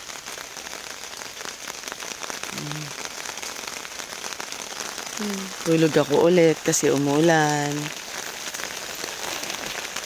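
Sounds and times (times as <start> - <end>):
rain falling on a tent: 0.0 - 10.0.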